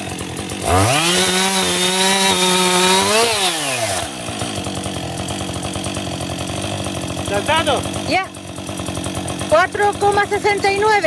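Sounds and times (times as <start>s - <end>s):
chainsaw cutting log: 0.0s - 11.0s.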